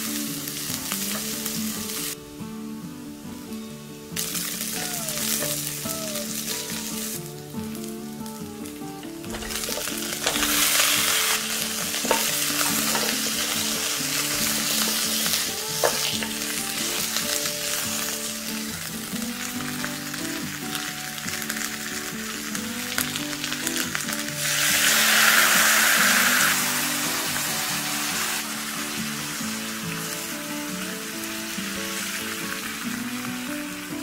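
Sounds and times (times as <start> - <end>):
meat sizzling in hot oil: 0.0 - 2.2, 4.1 - 34.0.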